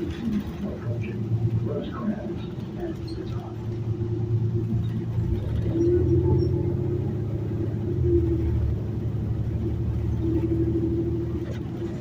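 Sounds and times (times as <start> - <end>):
bus engine rumble: 0.0 - 12.0
constant drone: 0.0 - 12.0.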